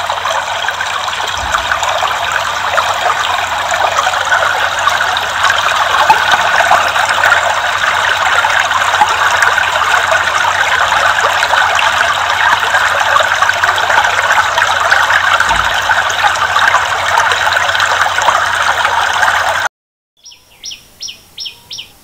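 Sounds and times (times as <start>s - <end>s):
fountain jets splashing into pool: 0.0s - 19.7s.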